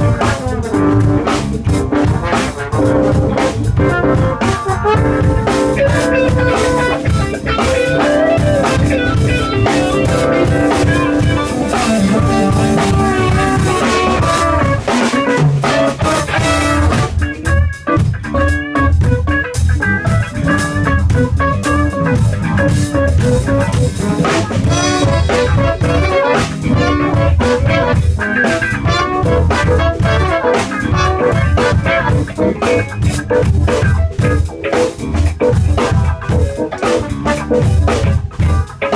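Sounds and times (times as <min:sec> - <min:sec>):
drum kit: 0:00.0 - 0:38.9
guitar: 0:00.0 - 0:38.9
live band playing jazz: 0:00.0 - 0:38.9.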